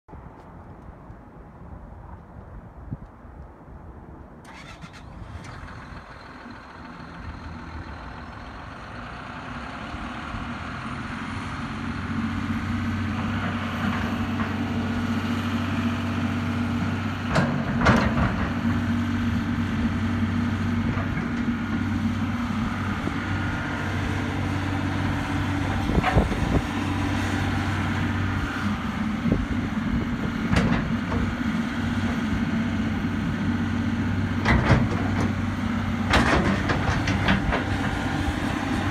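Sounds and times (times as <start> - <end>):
excavator diesel engine running: 4.5 - 38.9.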